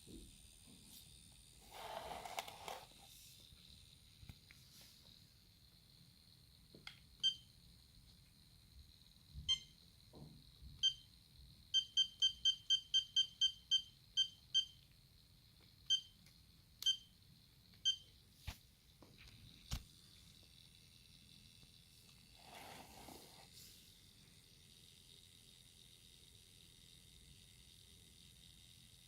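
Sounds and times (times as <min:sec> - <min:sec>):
faint steady high whine: 0:00.0 - 0:29.0.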